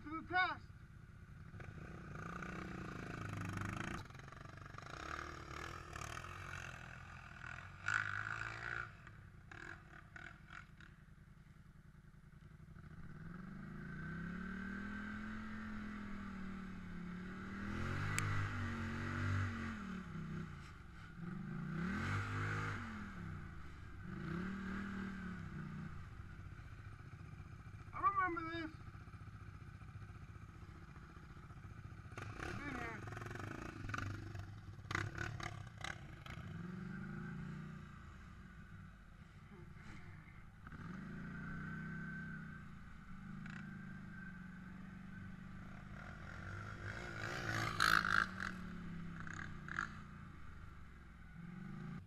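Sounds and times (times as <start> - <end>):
atv engine revving: 1.2 - 11.1, 12.6 - 52.0.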